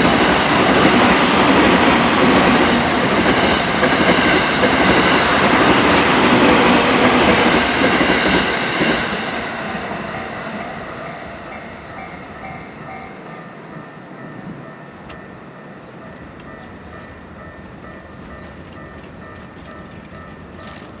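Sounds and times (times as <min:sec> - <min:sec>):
electric train passing: 0:00.0 - 0:21.0
level crossing warning bells: 0:00.0 - 0:21.0
rail hum: 0:00.0 - 0:21.0.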